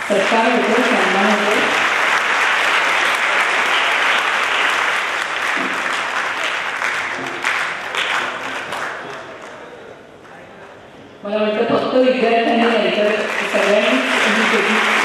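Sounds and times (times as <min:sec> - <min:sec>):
audience applauding: 0:00.0 - 0:09.9, 0:12.6 - 0:15.0.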